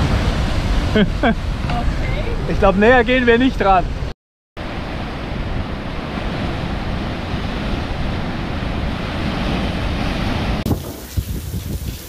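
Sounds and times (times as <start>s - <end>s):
sea surf breaking: 0.0s - 11.8s
wind buffeting microphone: 0.0s - 12.0s.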